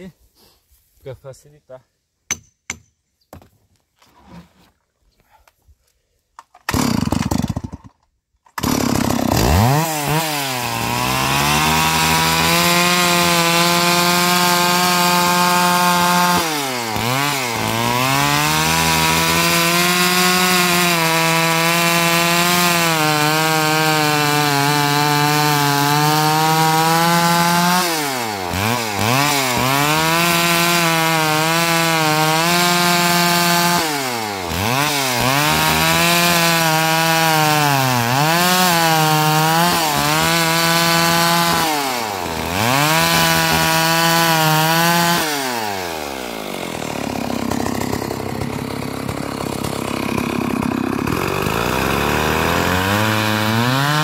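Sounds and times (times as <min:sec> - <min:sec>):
chainsaw cutting log: 0:06.4 - 0:54.0.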